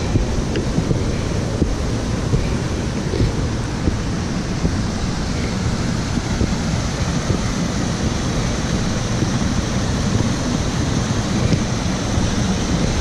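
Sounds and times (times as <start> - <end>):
river rushing over rocks: 0.0 - 13.0
wind buffeting microphone: 0.0 - 13.0.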